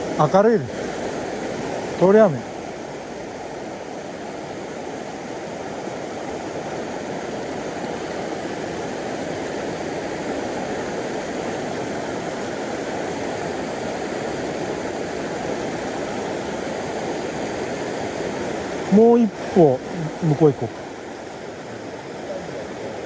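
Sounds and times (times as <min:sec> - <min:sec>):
river current rushing: 0:00.0 - 0:23.0.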